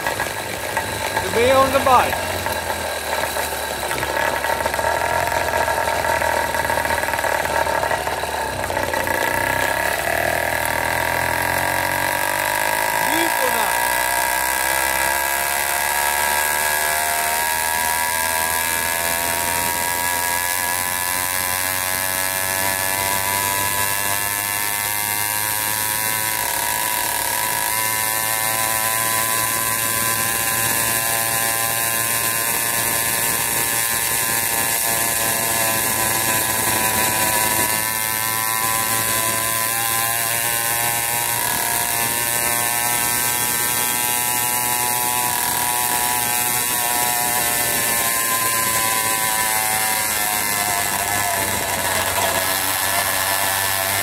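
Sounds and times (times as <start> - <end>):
two-stroke engine buzzing at high revs: 0.0 - 54.0.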